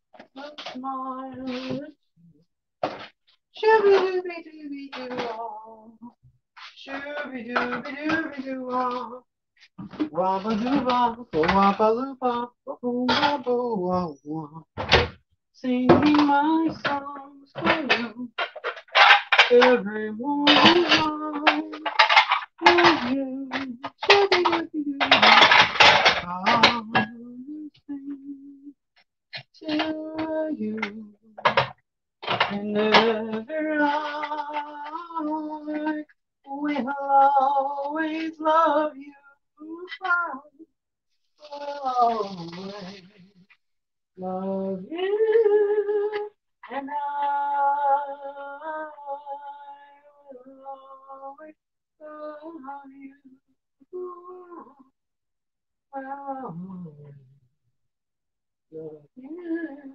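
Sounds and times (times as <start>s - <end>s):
woman singing wordlessly: 0.2s - 2.0s, 3.5s - 14.9s, 15.6s - 28.8s, 29.4s - 40.6s, 41.4s - 43.4s, 44.2s - 54.9s, 55.9s - 57.4s, 58.7s - 59.9s.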